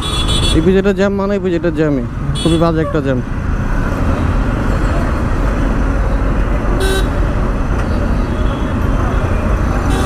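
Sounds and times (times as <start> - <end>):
traffic engines rumbling: 0.0 - 10.0.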